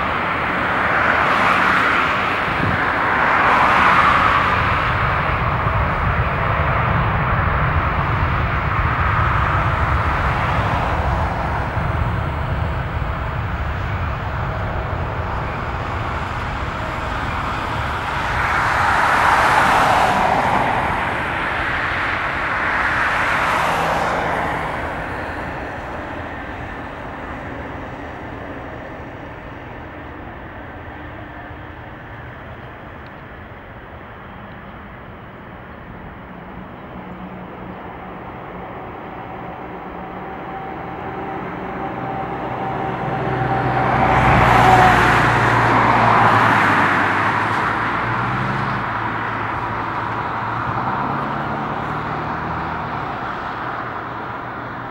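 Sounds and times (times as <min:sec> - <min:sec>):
jet roar at takeoff: 0:00.0 - 0:54.9.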